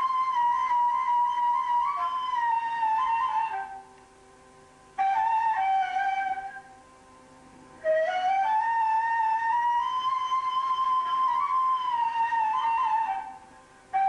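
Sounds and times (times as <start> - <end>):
solo flute melody: 0.0 - 4.0, 4.9 - 6.9, 7.7 - 14.0.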